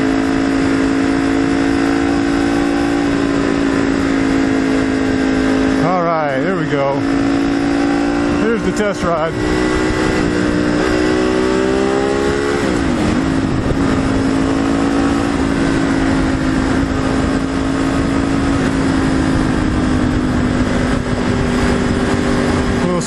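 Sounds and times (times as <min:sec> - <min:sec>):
motorcycle accelerating: 0:00.0 - 0:23.0
wind rush: 0:00.0 - 0:23.0.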